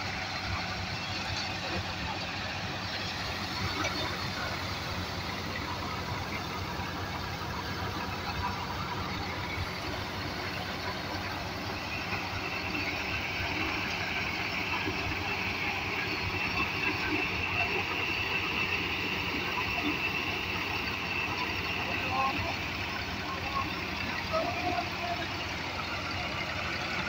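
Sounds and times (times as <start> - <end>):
engine drone: 0.0 - 27.0.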